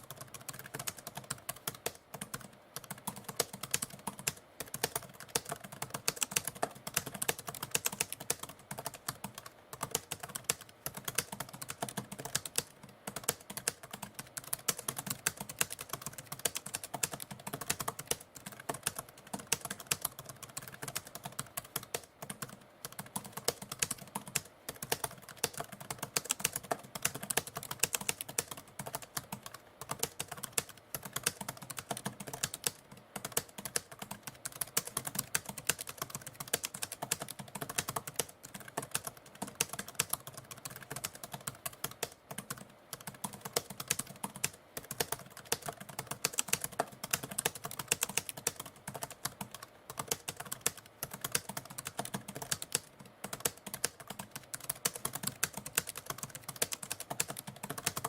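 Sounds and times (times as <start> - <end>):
typewriter typing: 0.0 - 58.0.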